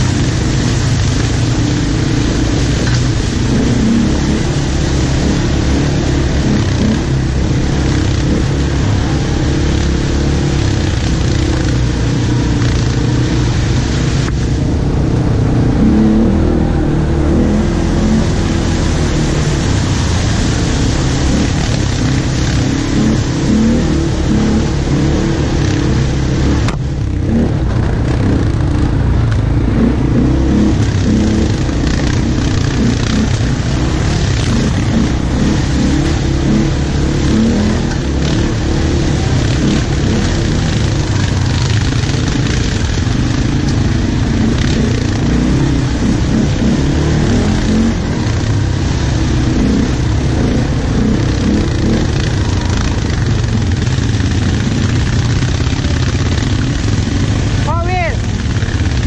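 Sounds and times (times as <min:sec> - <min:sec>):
atv engines running: 0:00.0 - 0:59.0.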